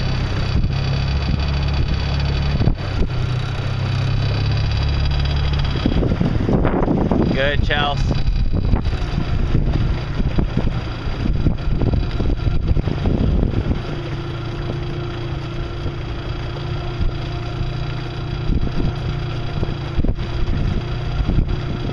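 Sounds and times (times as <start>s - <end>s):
outboard motor running: 0.0s - 21.9s.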